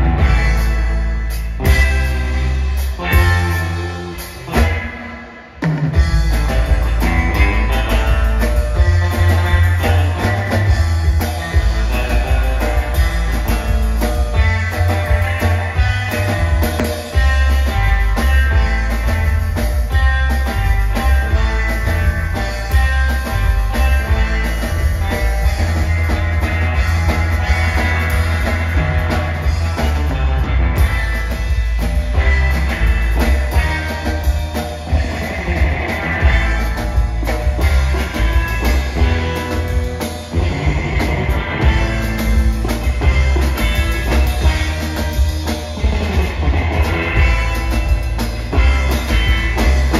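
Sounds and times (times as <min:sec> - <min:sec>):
drum kit beat: 0:00.0 - 0:49.9
electric guitar: 0:00.0 - 0:49.9
upright bass line: 0:00.0 - 0:49.9.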